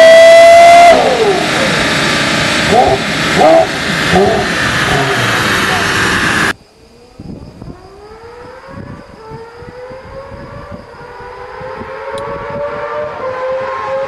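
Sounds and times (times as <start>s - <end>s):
engine accelerating: 0.0s - 6.6s, 7.7s - 14.0s
loud passage: 0.0s - 6.6s, 8.3s - 14.0s.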